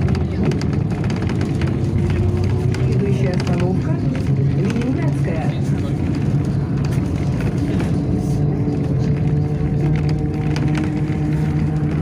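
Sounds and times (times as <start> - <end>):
bus engine and drivetrain hum: 0.0 - 12.0
road noise: 0.0 - 12.0.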